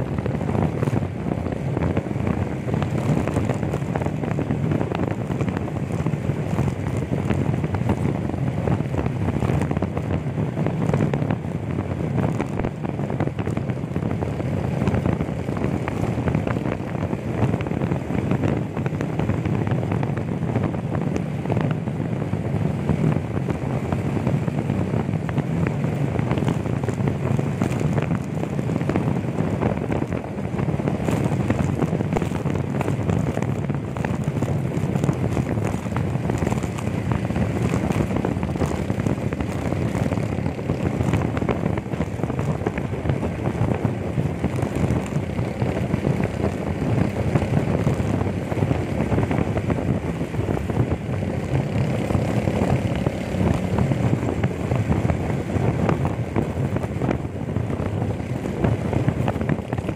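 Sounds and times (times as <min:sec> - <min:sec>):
vehicle engine running: 0:00.0 - 0:59.9
wind rushing over microphone: 0:00.0 - 0:59.9.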